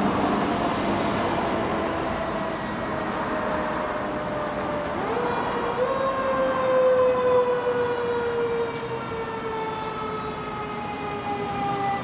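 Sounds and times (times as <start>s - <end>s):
fire engine siren wailing: 0.0s - 12.0s
traffic rumble: 0.0s - 12.0s.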